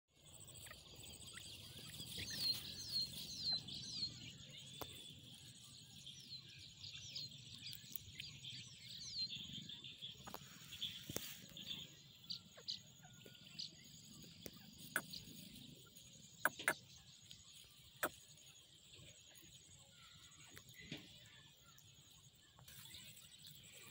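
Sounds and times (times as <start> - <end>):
young birds chirping: 0.2 - 23.9.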